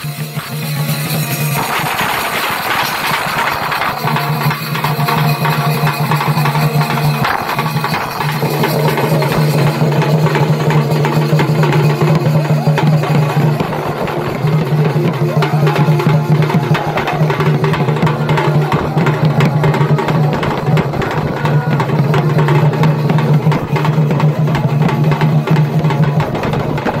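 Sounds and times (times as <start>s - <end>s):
drums beaten fast: 0.0s - 27.0s.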